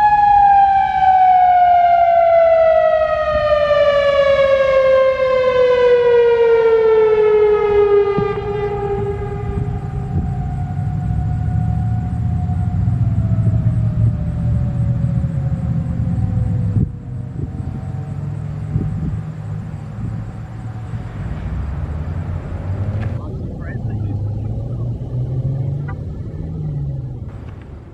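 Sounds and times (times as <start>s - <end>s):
road traffic rumble: 0.0s - 27.9s
tornado siren winding down: 0.0s - 27.9s.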